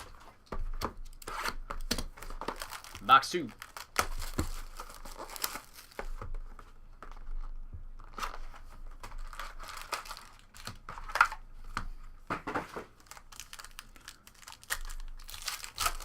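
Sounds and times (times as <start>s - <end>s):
plastic wrapping crinkling and tearing: 1.0s - 11.5s, 12.9s - 16.0s.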